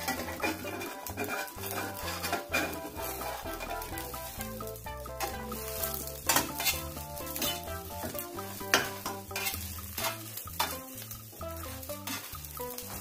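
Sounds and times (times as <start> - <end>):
spatula scraping pan: 0.0 - 4.4, 5.2 - 13.0
background music with bass line: 0.0 - 13.0
omelette sizzling in frying pan: 0.0 - 13.0.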